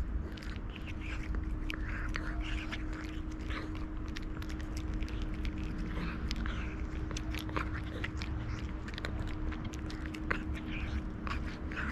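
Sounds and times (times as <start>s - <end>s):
cat crunching dry kibble: 0.0s - 11.9s
steady low rumble: 0.0s - 11.9s.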